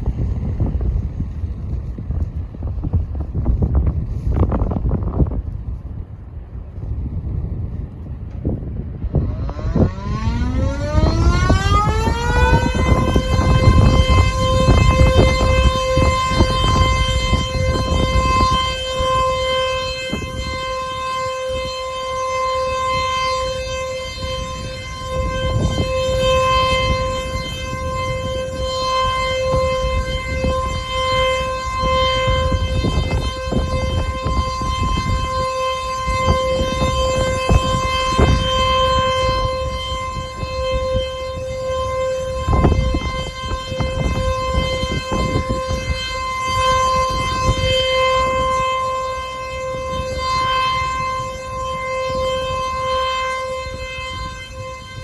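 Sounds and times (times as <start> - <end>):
warning siren: 0.0 - 55.0.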